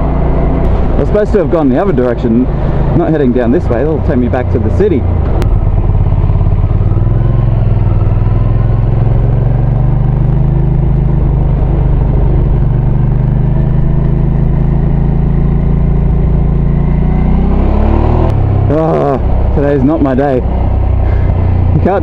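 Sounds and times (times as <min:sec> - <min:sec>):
muffled motorcycle engine cruising: 0:00.0 - 0:22.0.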